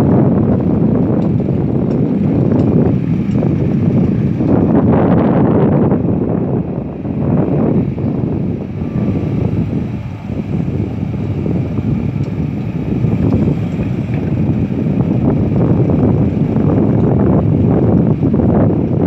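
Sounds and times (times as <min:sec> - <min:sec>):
excavator diesel engine running: 0:00.0 - 0:19.0
wind rumbling on microphone: 0:00.0 - 0:19.0.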